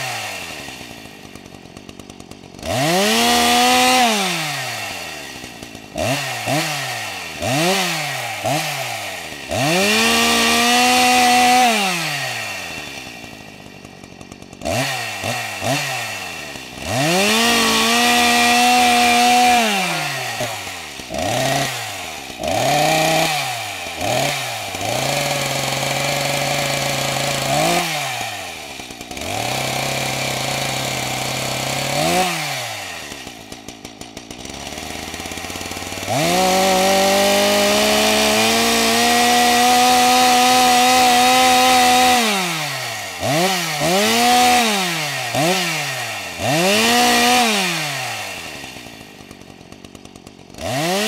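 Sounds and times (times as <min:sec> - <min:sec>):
chainsaw revving: 0:00.0 - 0:51.0.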